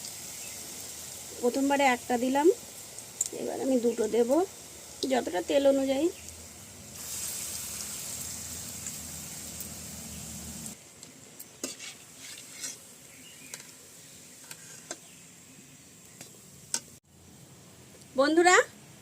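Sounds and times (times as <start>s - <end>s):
leaves frying in hot oil: 0.0s - 17.1s.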